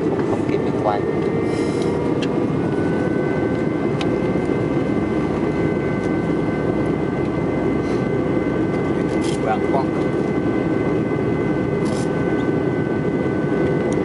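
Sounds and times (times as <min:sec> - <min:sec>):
jet engine cabin roar: 0:00.0 - 0:14.0
lower whine: 0:00.0 - 0:14.0
thin steady whines: 0:00.0 - 0:14.0.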